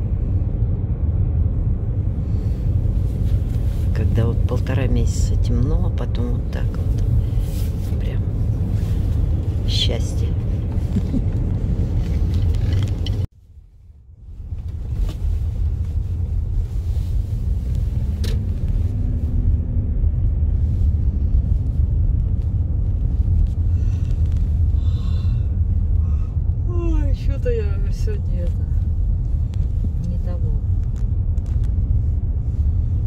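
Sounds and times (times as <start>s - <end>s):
car road rumble from inside cabin: 0.0s - 33.0s.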